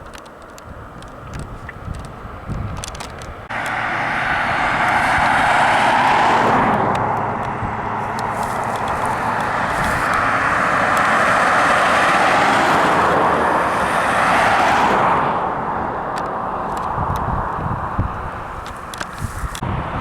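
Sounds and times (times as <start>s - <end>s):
vehicle passing on highway: 0.0s - 20.0s.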